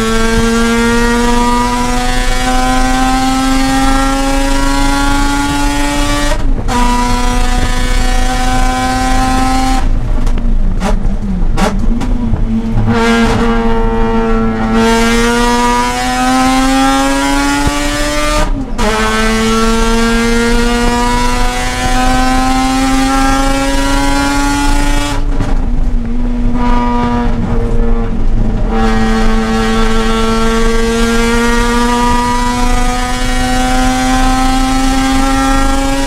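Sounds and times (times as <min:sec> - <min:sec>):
rotary engine accelerating: 0:00.0 - 0:36.0.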